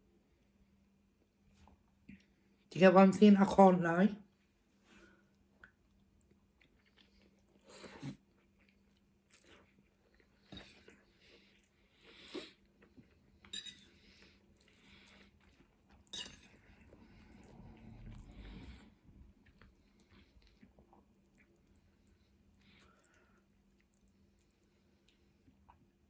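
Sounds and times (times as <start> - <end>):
person chewing food: 5.0 - 26.0.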